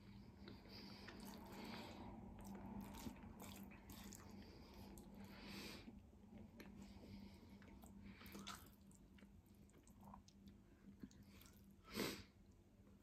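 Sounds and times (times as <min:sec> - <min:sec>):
person chewing: 0:00.4 - 0:11.7.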